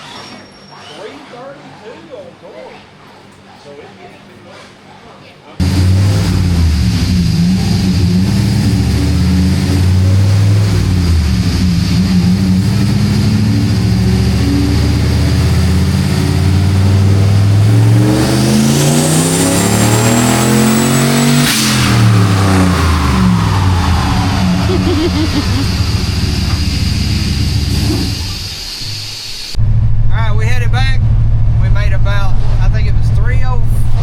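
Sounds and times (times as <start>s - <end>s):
truck engine revving: 5.6s - 34.0s.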